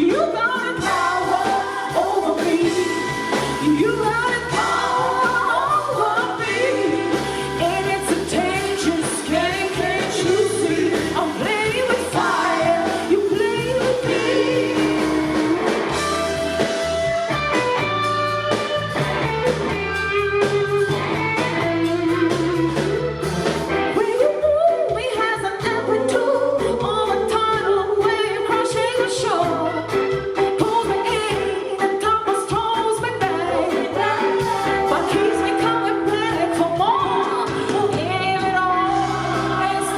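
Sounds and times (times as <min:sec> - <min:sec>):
bass guitar: 0:00.0 - 0:39.9
blues-rock band playing: 0:00.0 - 0:39.9
electric guitar lead melody: 0:00.7 - 0:39.9.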